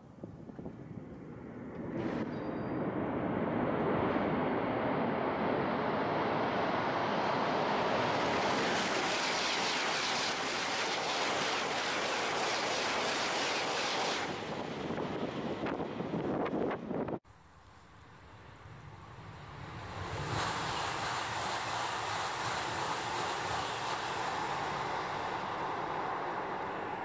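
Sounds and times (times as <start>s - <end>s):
high-speed train passing: 0.8s - 17.2s, 18.0s - 27.0s.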